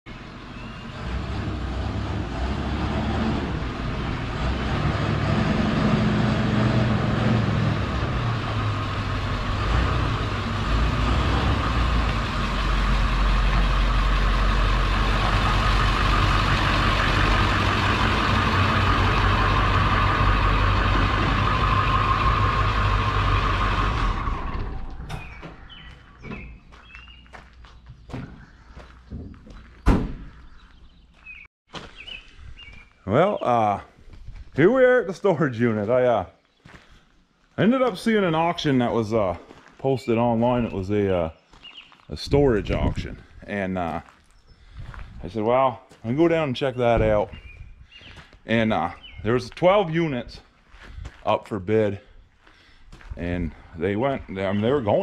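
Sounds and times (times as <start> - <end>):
truck engine and road noise: 0.1 - 55.0.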